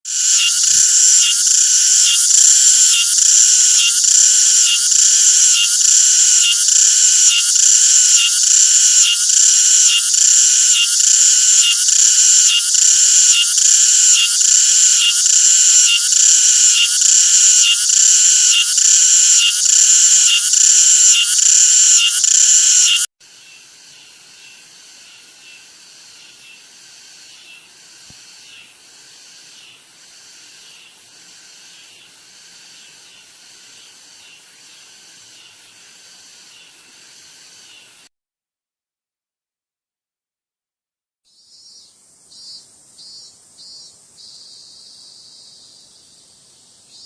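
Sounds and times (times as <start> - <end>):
cicadas buzzing: 0.0 - 38.1, 41.3 - 47.0
faint cicada buzz: 0.0 - 38.1, 41.3 - 47.0.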